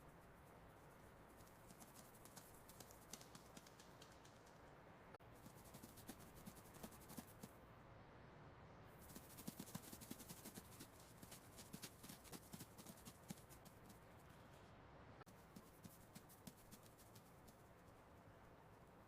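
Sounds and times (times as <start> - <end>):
light rapid clicks and scratches: 0.0 - 7.6, 9.0 - 14.7, 15.3 - 19.0.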